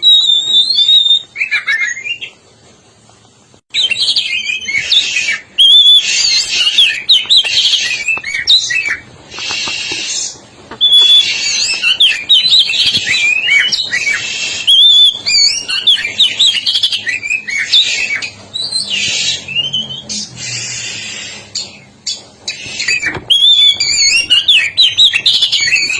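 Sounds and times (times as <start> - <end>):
songbird whistling and rasping: 0.0 - 2.3, 3.7 - 25.9.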